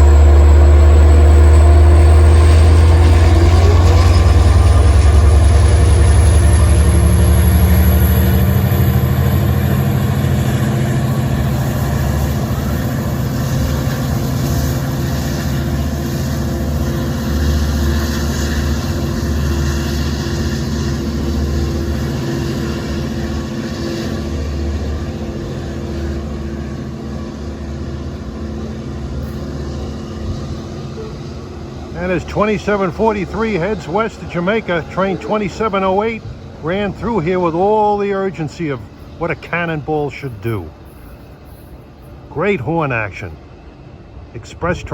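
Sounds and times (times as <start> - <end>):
diesel locomotive engine drone: 0.0 - 44.9.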